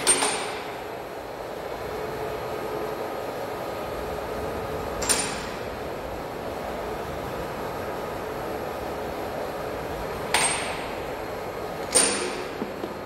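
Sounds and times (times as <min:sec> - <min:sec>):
lathe machine hum: 0:00.0 - 0:13.0.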